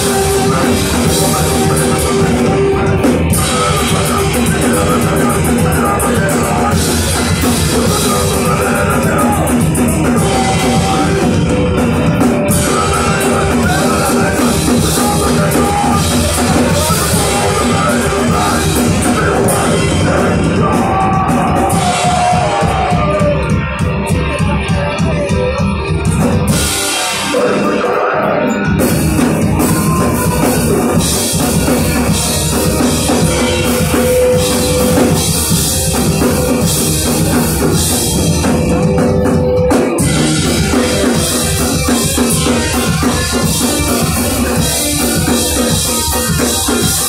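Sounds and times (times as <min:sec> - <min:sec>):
bass guitar: 0:00.0 - 0:47.0
drum kit: 0:00.0 - 0:47.0
electric guitars: 0:00.0 - 0:47.0
person singing: 0:00.0 - 0:47.0.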